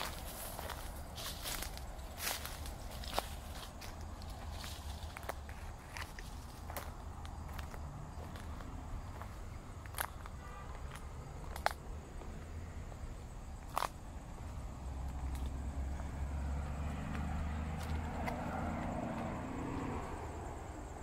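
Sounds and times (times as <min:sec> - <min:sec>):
distant road traffic rumbling: 0:00.0 - 0:21.0
vehicle passing: 0:00.0 - 0:21.0.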